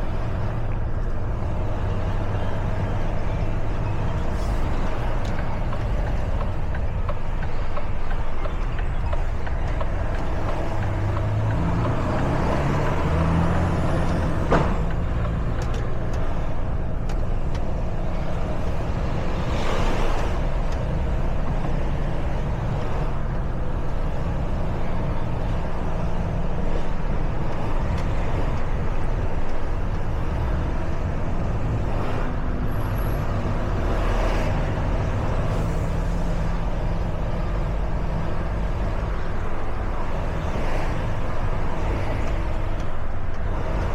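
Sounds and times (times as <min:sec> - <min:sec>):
truck diesel engine: 0:00.0 - 0:43.9.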